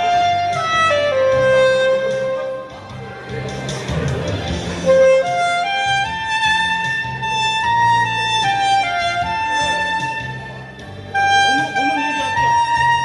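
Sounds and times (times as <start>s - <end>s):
low backing accompaniment: 0.0s - 13.0s
slow solo instrument melody: 0.0s - 13.0s.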